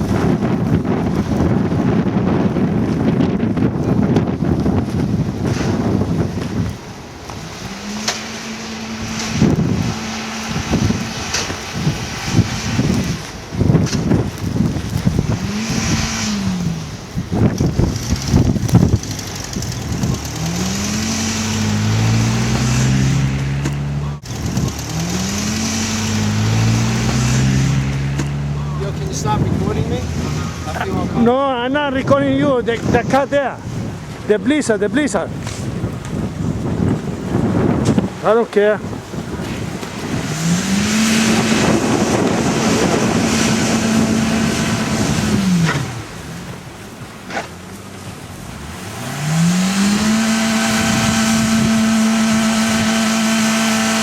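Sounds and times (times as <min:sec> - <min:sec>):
wheels spinning in snow: 0:00.0 - 0:31.2, 0:38.8 - 0:54.0
car engine revving hard: 0:00.0 - 0:31.5, 0:38.8 - 0:54.0
wind buffeting microphone: 0:00.0 - 0:54.0.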